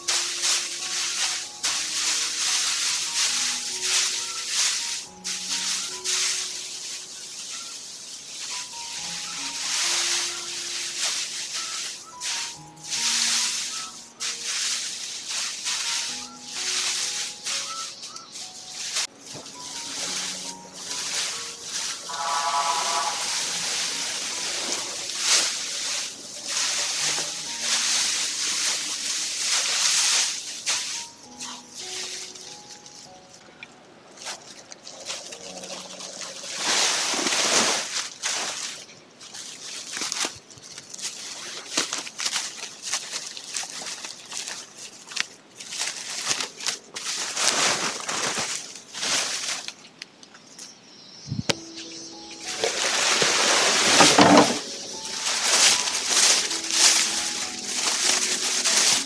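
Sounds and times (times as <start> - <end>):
dry straw rustling: 0.0 - 50.0, 52.4 - 59.0.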